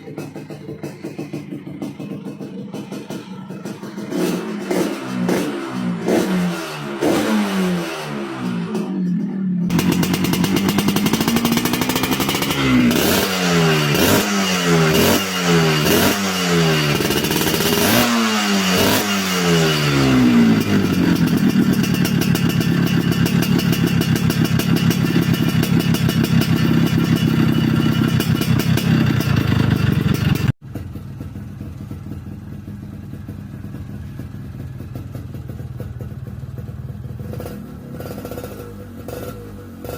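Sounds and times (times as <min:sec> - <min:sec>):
motorcycle engine idling: 0:00.0 - 0:06.5, 0:08.5 - 0:18.1, 0:18.7 - 0:39.9
motorcycle engine revving: 0:00.0 - 0:39.9.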